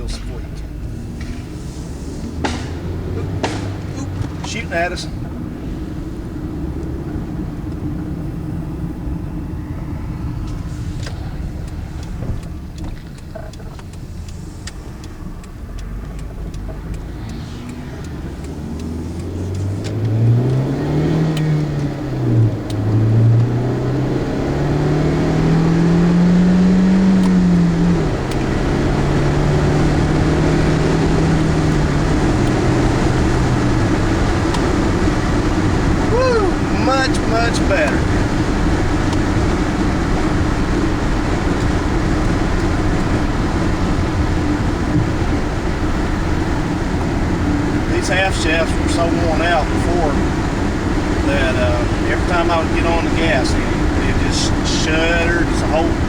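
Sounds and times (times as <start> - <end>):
car engine accelerating: 0.0 - 56.0
road rumble: 0.0 - 56.0.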